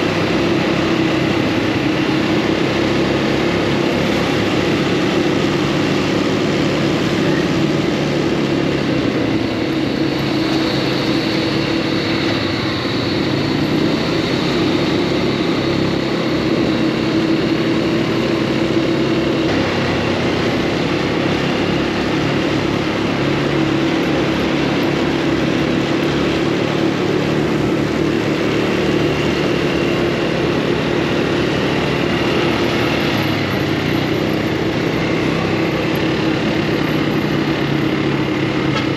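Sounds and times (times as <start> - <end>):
buggy engine running: 0.0 - 38.9.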